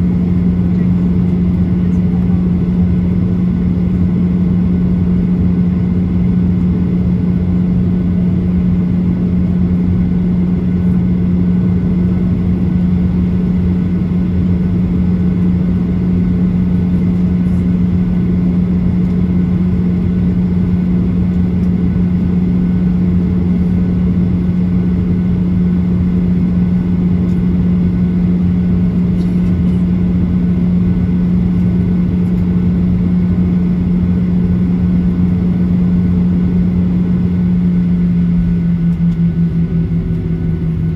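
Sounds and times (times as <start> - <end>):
aircraft cabin drone: 0.0 - 40.9.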